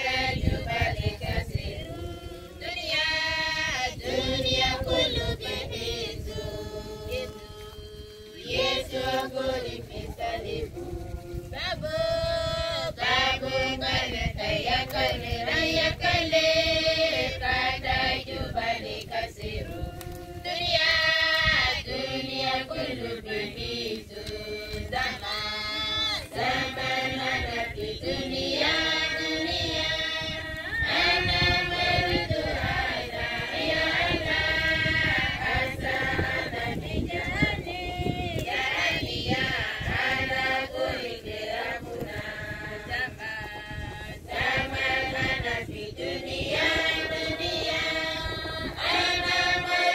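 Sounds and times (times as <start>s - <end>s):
women and children singing: 0.0s - 49.9s.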